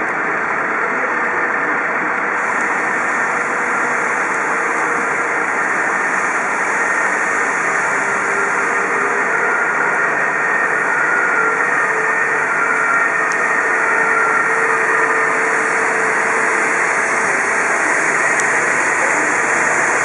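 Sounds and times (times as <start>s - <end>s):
street traffic: 0.0s - 20.0s
vehicle engines running: 0.0s - 20.0s.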